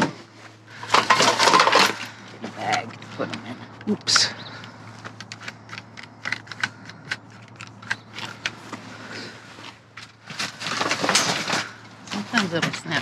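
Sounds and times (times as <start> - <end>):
low steady hum: 0.0 - 13.0
drink containers clicking and rattling: 0.8 - 9.0, 10.0 - 13.0.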